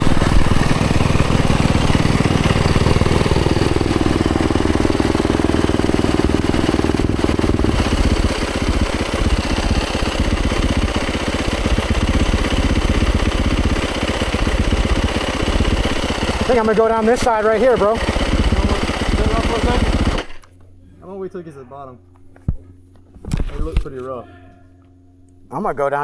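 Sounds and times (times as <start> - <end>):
dirt bike engine running: 0.0 - 21.3.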